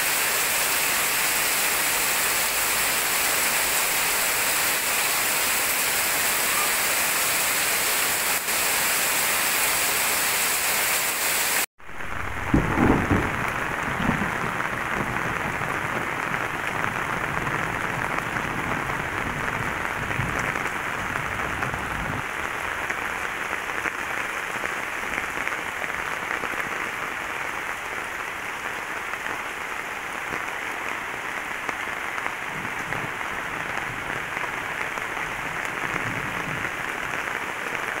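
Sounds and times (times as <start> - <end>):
heavy rain on water and leaves: 0.0 - 38.0.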